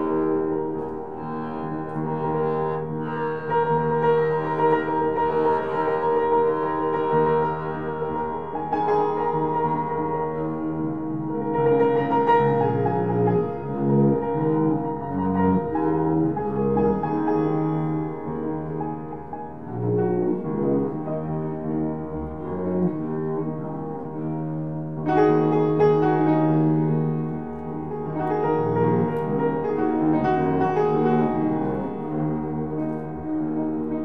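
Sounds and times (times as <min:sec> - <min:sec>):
bowed double bass: 0:00.0 - 0:34.0
piano playing chords and runs: 0:00.0 - 0:34.0.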